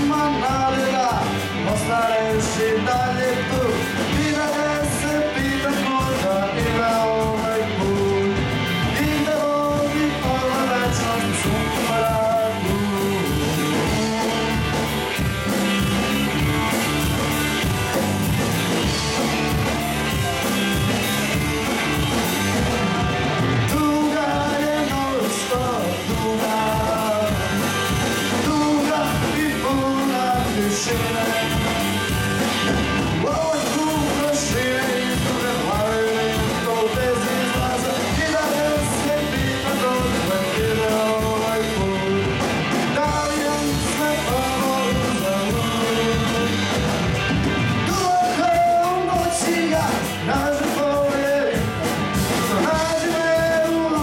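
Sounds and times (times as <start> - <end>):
person singing: 0.0 - 18.0, 18.8 - 54.0
live rock band playing: 0.0 - 54.0.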